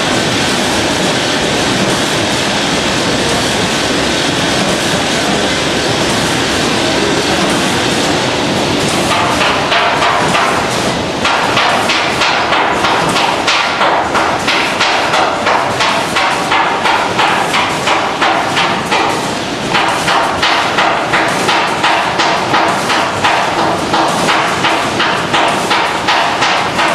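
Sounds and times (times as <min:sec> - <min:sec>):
packaging machinery clacking: 0:00.0 - 0:26.9.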